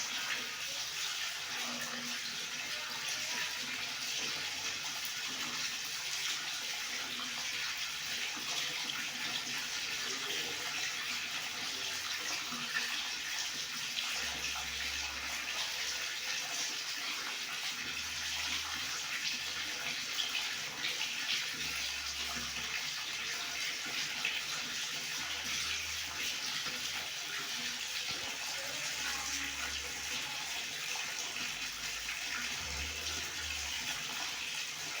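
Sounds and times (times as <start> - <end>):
water running from tap: 0.0 - 35.0.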